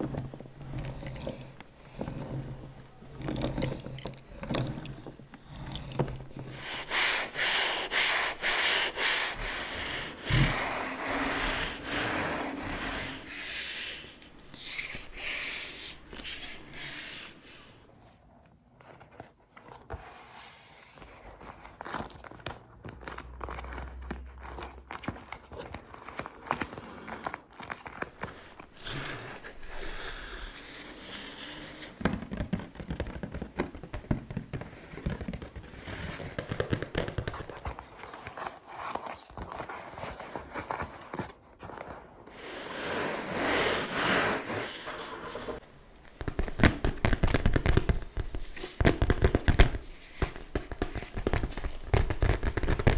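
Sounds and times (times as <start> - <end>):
scratching on surfaces: 0.0 - 17.9, 26.6 - 52.9.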